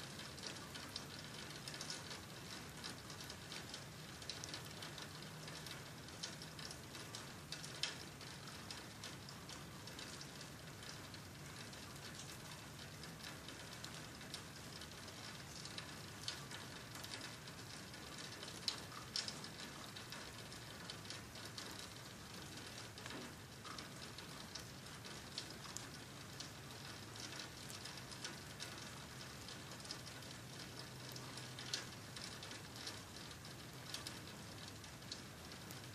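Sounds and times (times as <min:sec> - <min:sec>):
rain falling: 0:00.0 - 0:35.9.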